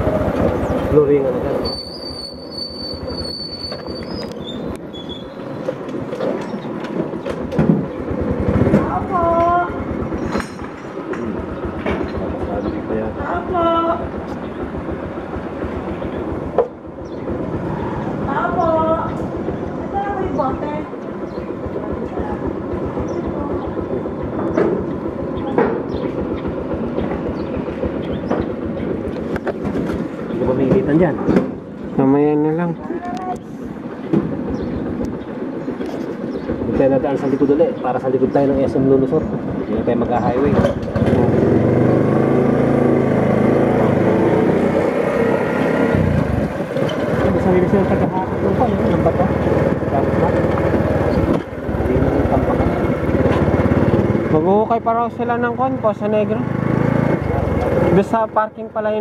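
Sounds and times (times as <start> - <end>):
moving vehicle rumble and rattle: 0.0 - 59.0.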